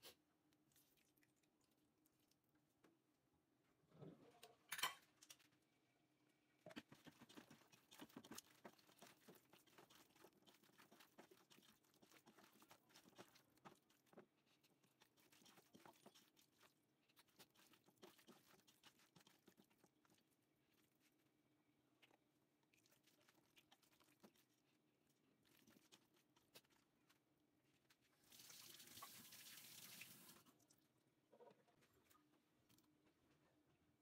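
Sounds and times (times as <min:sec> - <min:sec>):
wet squishing of mixing meat: 0:00.0 - 0:03.1, 0:06.4 - 0:31.0.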